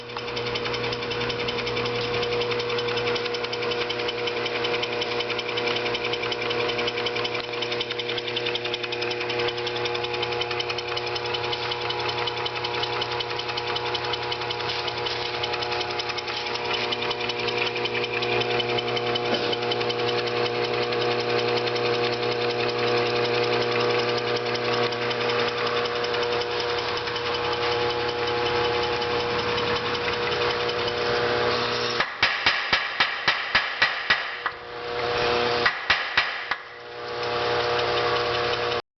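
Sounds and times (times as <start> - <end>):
power hammer running: 0.0 - 38.8.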